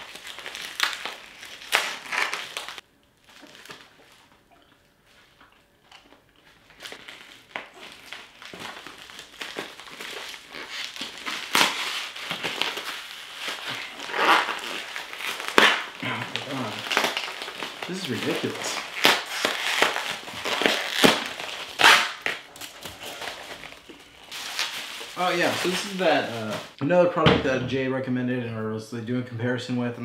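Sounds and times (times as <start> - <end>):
packaging crinkling and crunching: 0.0 - 26.8.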